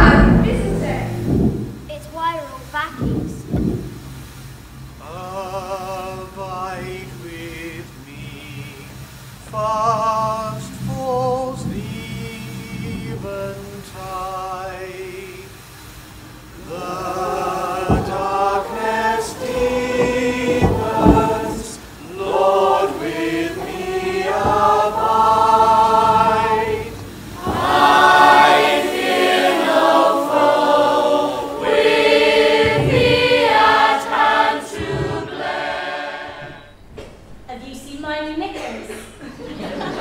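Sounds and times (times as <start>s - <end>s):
chorus singing together: 0.0s - 2.0s, 4.8s - 37.2s, 38.8s - 40.0s.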